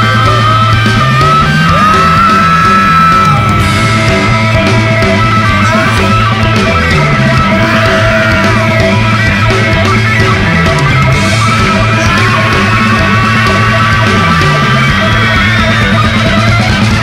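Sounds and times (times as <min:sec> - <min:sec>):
bass line: 0:00.0 - 0:17.0
drums: 0:00.0 - 0:17.0
rock band music: 0:00.0 - 0:17.0.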